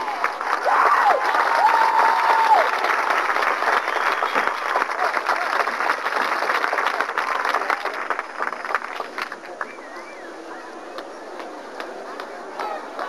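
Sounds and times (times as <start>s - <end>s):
stadium crowd applauding and cheering: 0.0s - 13.0s.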